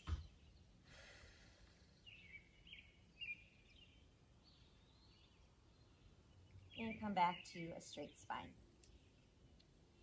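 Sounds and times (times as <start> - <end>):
faint bird chirps: 1.8 - 10.0.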